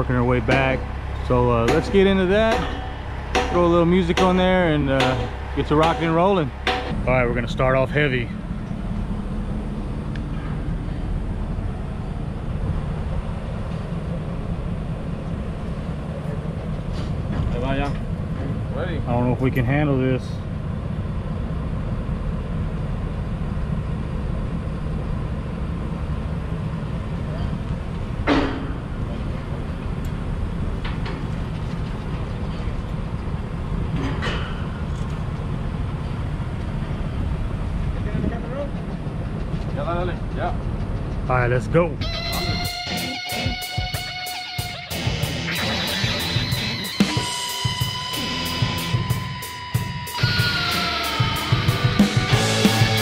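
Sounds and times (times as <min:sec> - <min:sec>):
steady low rumble: 0:00.0 - 0:50.2.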